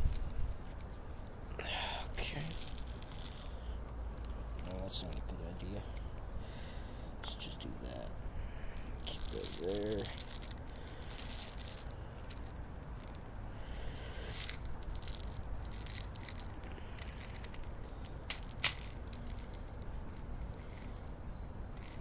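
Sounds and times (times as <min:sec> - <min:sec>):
bbs rattling: 0:01.9 - 0:06.2, 0:07.2 - 0:22.0.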